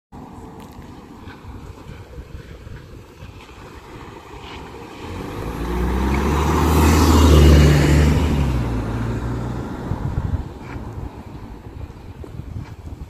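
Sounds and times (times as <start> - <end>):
vehicle passing by: 0.2 - 12.2.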